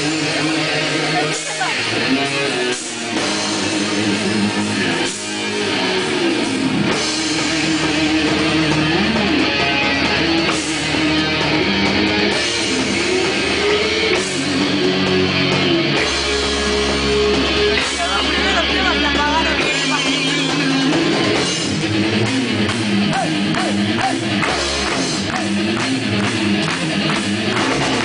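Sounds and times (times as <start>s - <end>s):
bass guitar: 0.0s - 28.0s
electric guitar melody: 0.0s - 28.0s
heavy metal band playing: 0.0s - 28.0s.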